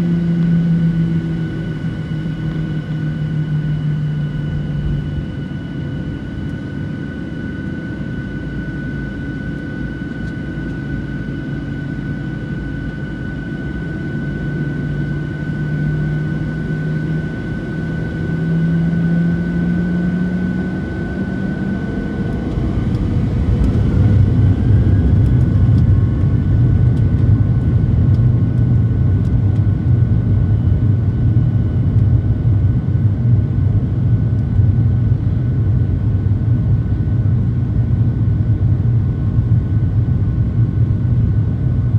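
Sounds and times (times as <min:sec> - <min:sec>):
jet engines whining: 0:00.0 - 0:34.1.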